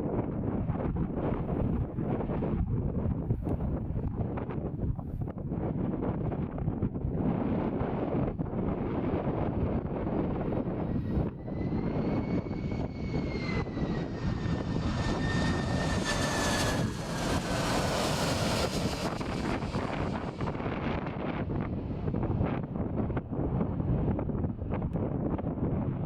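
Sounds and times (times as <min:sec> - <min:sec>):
airplane engine whine: 0:00.0 - 0:26.0
rushing airplane engine noise: 0:00.0 - 0:26.0
wind rumbling on microphone: 0:00.0 - 0:26.0.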